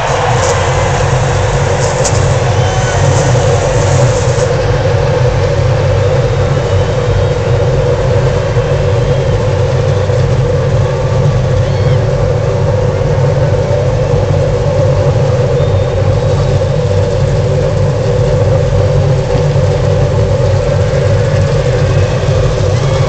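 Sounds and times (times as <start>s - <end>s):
racing car engines idling: 0.0s - 23.0s.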